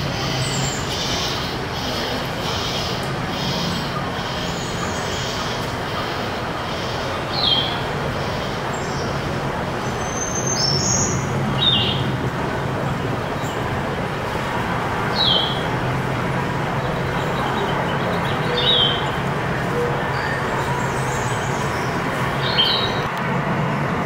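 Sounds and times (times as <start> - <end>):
birds chirping: 0.0 - 12.2, 12.8 - 23.1.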